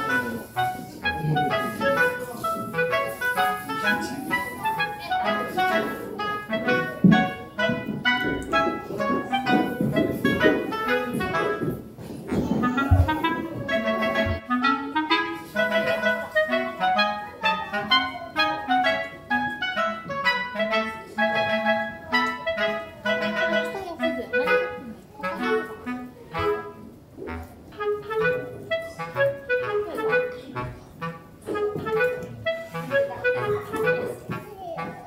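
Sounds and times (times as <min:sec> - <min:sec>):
lively instrumental music: 0:00.0 - 0:35.0.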